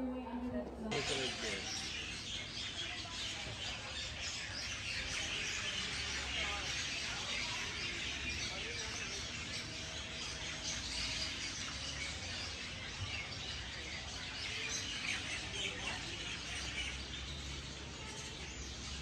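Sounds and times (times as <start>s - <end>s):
birds chirping: 0.8s - 19.0s.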